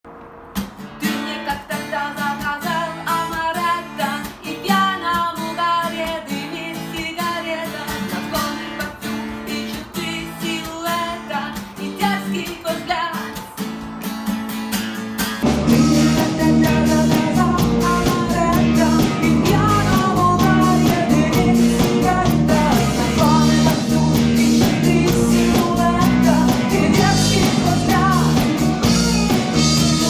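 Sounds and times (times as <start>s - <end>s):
acoustic guitar strumming: 0.1s - 30.0s
person singing: 1.0s - 13.7s, 15.5s - 30.0s.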